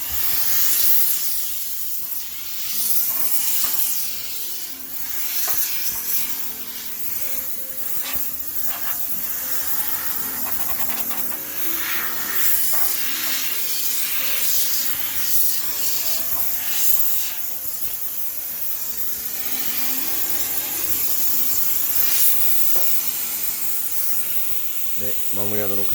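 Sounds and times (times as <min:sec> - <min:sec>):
faint background music: 0:00.0 - 0:25.9
steam sprayer hissing: 0:00.0 - 0:25.9.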